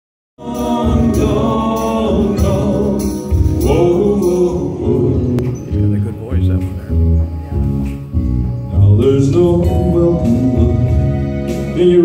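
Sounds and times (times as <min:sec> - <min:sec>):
amplified live music: 0:00.4 - 0:12.0.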